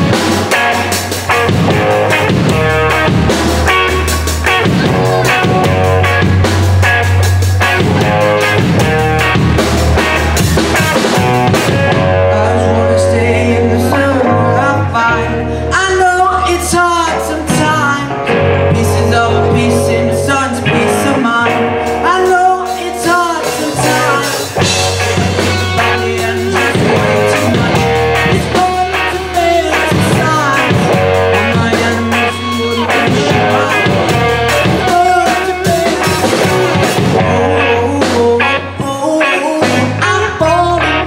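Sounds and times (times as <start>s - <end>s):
man singing lead vocal: 0.0s - 3.2s, 10.4s - 41.0s
live rock band playing: 0.0s - 41.0s.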